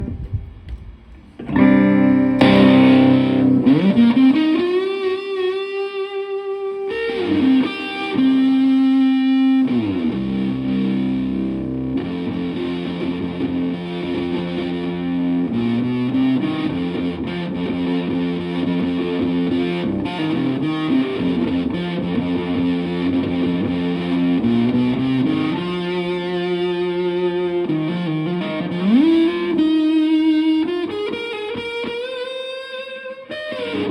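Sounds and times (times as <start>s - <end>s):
fuzz electric guitar: 0.0s - 33.9s.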